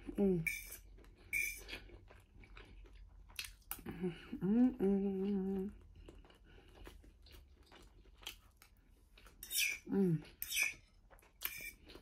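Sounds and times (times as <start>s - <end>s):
woman chewing: 0.0s - 12.0s.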